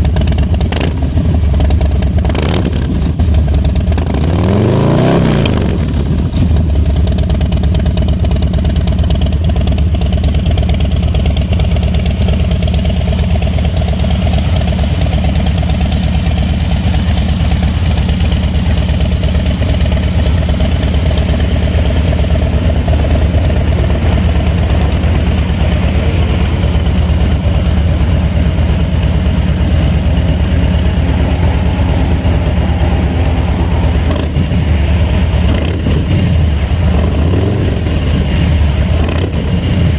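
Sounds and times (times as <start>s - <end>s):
motorcycle engine idling: 0.0s - 4.5s, 5.1s - 39.9s.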